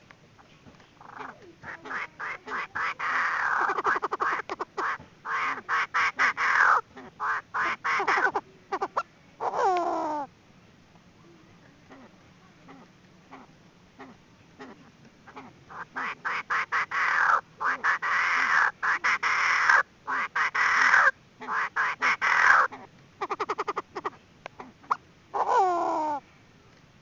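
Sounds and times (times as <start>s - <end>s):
francolin calling: 1.0s - 10.3s, 11.9s - 26.2s.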